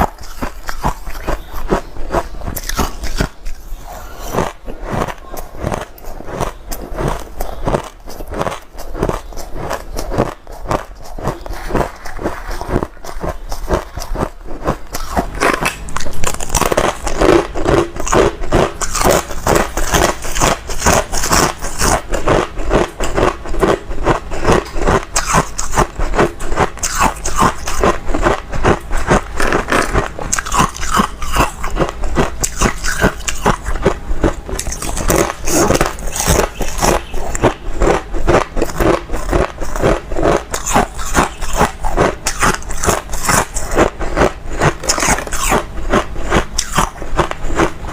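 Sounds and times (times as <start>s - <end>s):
ice crunched between teeth: 0.0s - 3.6s, 4.2s - 47.7s.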